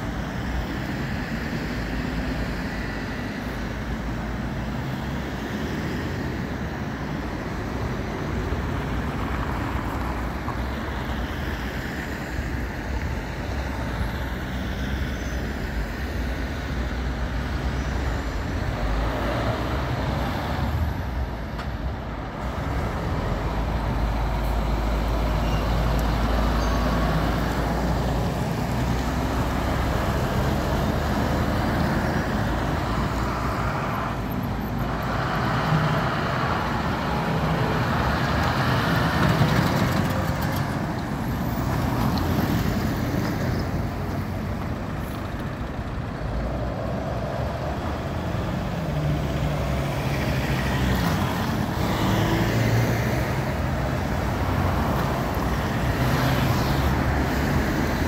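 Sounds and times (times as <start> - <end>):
trucks and cars driving past: 0.0 - 58.0.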